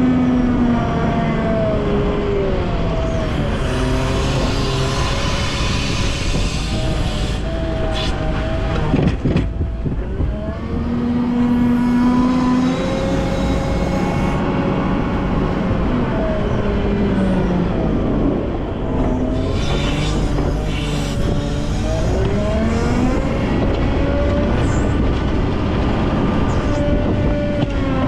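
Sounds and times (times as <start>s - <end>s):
diesel engine working: 0.0s - 28.0s
whining tones: 0.0s - 28.0s.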